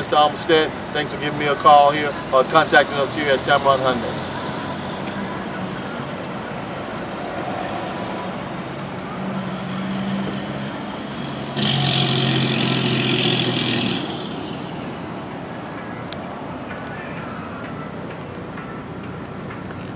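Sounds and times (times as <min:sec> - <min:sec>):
traffic noise: 0:00.0 - 0:19.9
vehicle engine running: 0:00.0 - 0:19.9.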